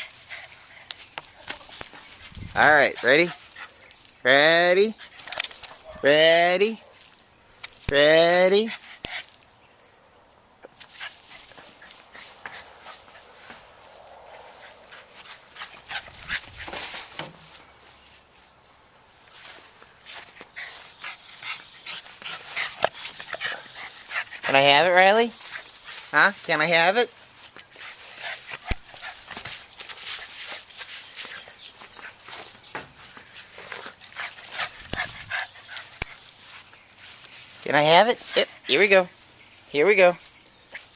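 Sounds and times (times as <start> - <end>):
dog breathy play noises: 0.0 - 4.2, 4.8 - 6.0, 8.6 - 9.6, 10.9 - 18.8, 20.0 - 26.8, 27.4 - 39.6.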